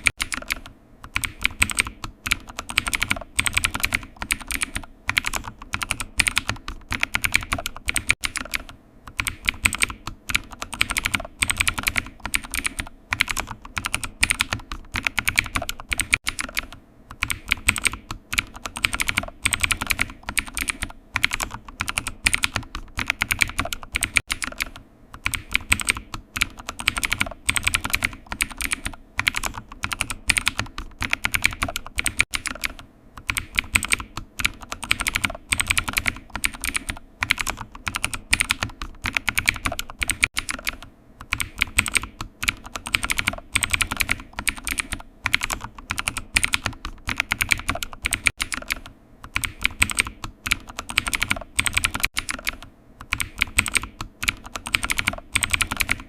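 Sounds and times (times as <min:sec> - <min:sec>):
computer keyboard typing: 0:00.0 - 0:56.0.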